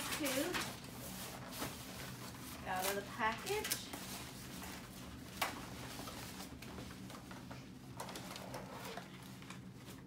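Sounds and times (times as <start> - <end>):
wrap rustling and crinkling: 0.0 - 10.0.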